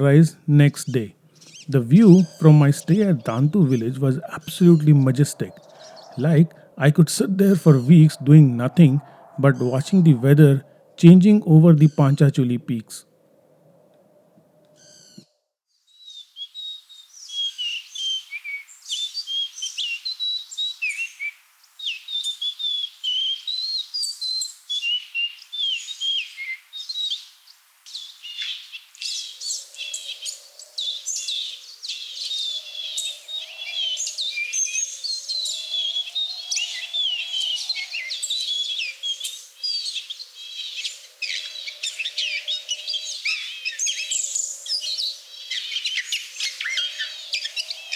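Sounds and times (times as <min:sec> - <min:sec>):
songbirds chirping: 0:00.0 - 0:15.2, 0:16.0 - 0:47.9.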